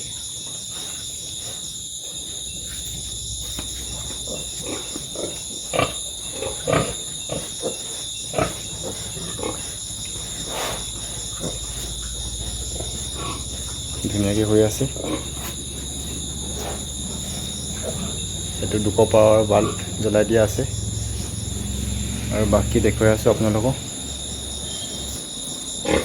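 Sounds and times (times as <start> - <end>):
crickets chirping: 0.0 - 26.0
piglets grunting: 3.9 - 26.0.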